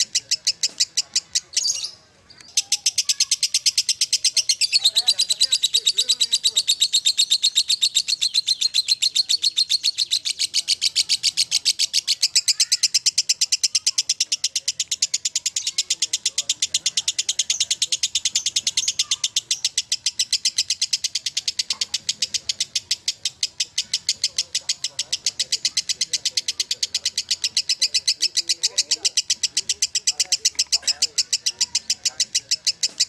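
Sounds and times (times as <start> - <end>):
lovebird chattering: 0.0 - 33.0.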